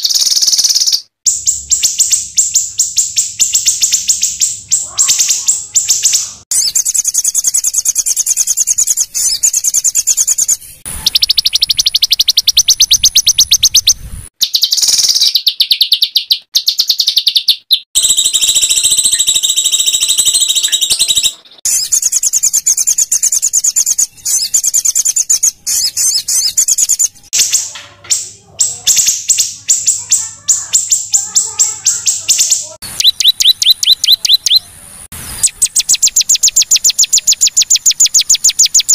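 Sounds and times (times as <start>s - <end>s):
songbirds rapid trills: 0.0s - 38.9s.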